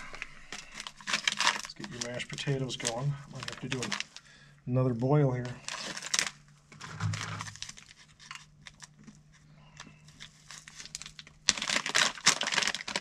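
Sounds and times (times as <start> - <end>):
plastic bag crinkling: 0.0 - 4.3, 5.5 - 13.0.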